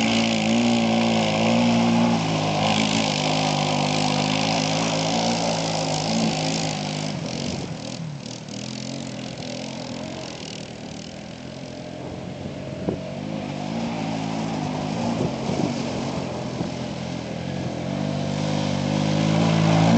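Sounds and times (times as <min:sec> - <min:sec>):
atv engine idling: 0:00.0 - 0:18.0
quad engine revving: 0:00.0 - 0:19.9.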